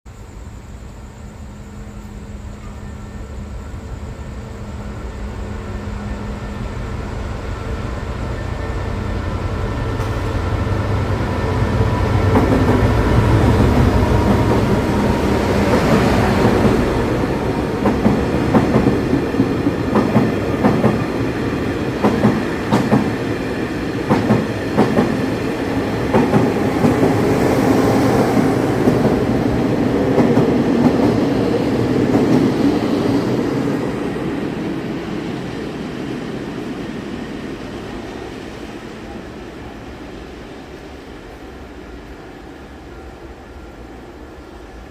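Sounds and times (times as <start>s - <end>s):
diesel train engine: 0.1s - 44.9s.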